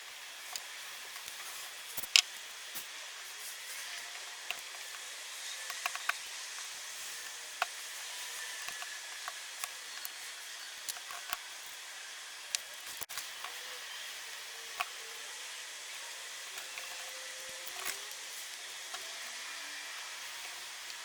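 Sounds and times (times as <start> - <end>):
small parts clicking and tapping: 0.0 - 2.9, 3.6 - 21.0.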